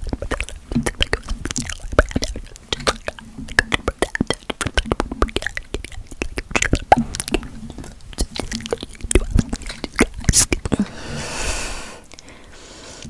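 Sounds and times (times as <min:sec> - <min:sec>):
wet mouth clicks and pops: 0:00.0 - 0:10.9, 0:12.0 - 0:12.4.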